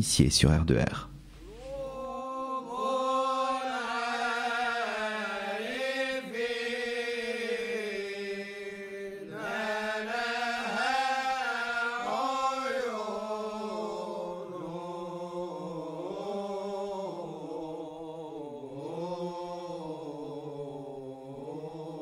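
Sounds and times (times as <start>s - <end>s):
voices chanting slow melody: 1.3s - 22.0s.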